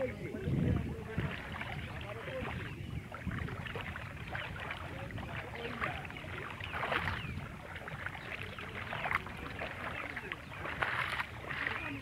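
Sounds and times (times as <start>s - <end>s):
bare feet wading through water: 0.0s - 12.0s.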